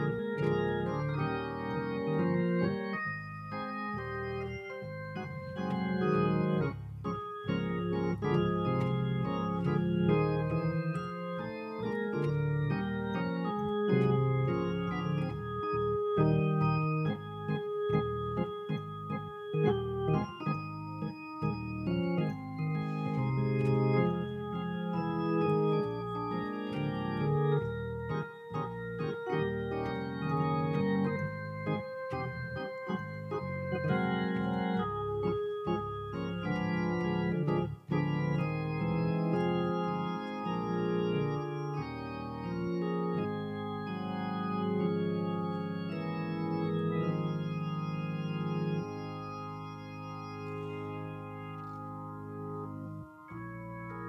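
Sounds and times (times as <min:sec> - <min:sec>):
organ playing sustained chords: 0:00.0 - 0:54.0.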